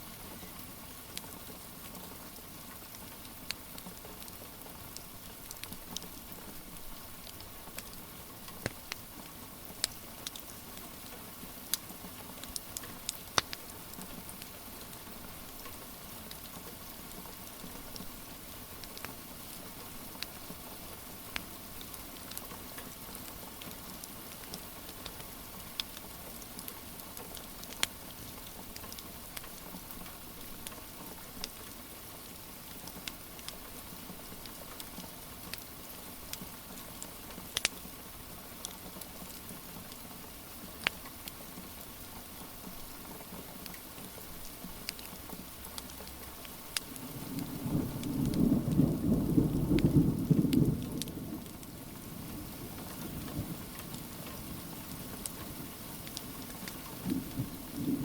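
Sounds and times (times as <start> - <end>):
steady rain hiss: 0.0 - 58.0
wood fire crackles and pops: 0.2 - 58.0.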